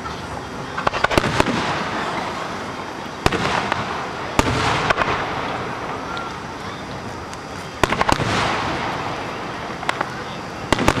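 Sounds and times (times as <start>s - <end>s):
fireworks bangs: 0.0s - 11.0s
fireworks crackling pops: 0.0s - 11.0s
rumble of fireworks display: 0.0s - 11.0s.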